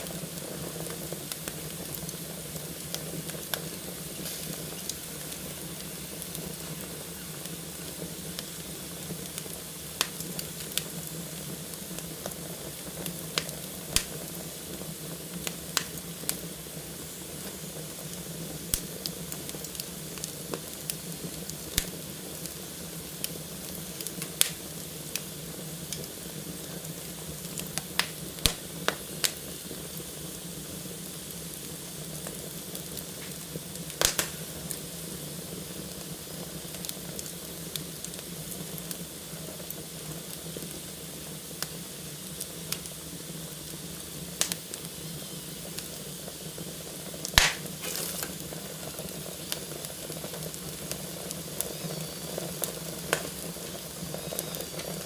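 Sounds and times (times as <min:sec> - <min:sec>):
fire crackling and popping: 0:00.0 - 0:55.0
fire hissing: 0:00.0 - 0:55.0.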